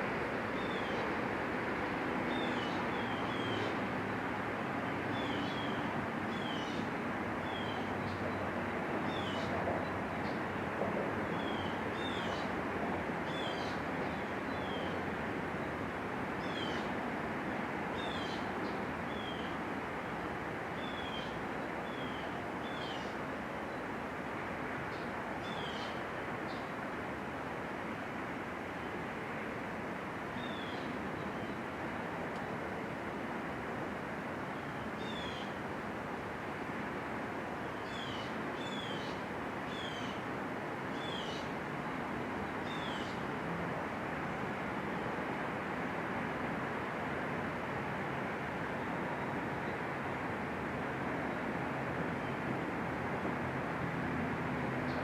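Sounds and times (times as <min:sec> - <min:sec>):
steady rushing background noise: 0:00.0 - 0:55.0.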